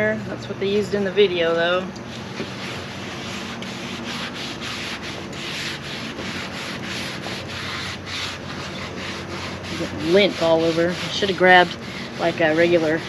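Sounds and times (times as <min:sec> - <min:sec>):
paper towel scrubbing griddle: 0:02.3 - 0:13.0.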